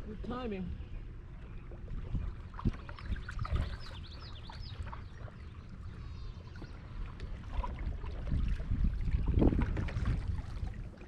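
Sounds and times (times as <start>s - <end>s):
water sounds: 0.0s - 11.0s
wind rumble on microphone: 0.0s - 11.0s.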